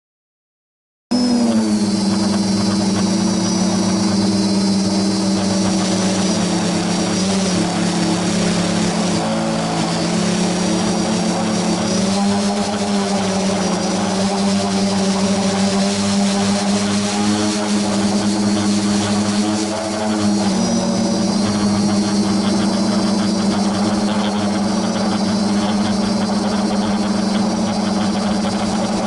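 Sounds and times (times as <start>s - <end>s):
drone motors and propellers humming: 1.1s - 29.0s.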